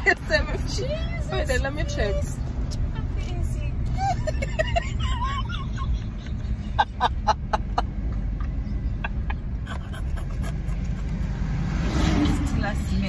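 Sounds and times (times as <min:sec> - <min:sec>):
road noise inside car: 0:00.0 - 0:13.0.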